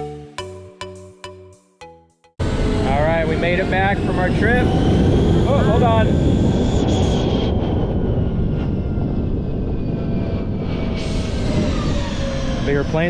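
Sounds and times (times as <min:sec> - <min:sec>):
airplane engines rumbling: 0:02.4 - 0:13.0.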